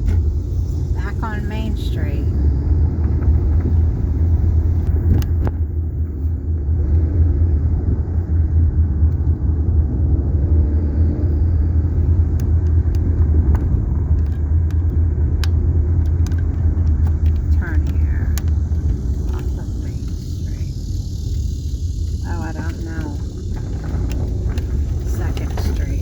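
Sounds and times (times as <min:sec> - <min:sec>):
car tyre and engine rumble: 0:00.0 - 0:26.0.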